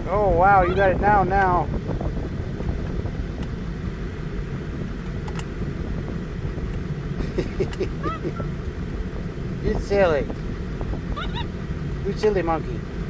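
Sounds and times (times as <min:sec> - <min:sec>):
low rumble inside a car: 0:00.0 - 0:13.0.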